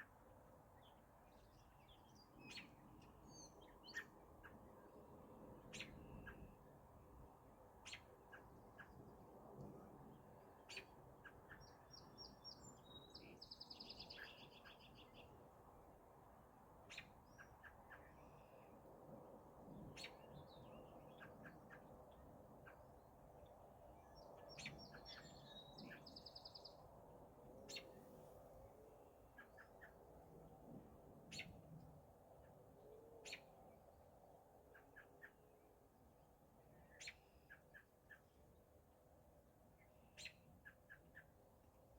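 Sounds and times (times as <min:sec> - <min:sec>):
soft outdoor hush: 0:00.0 - 0:41.9.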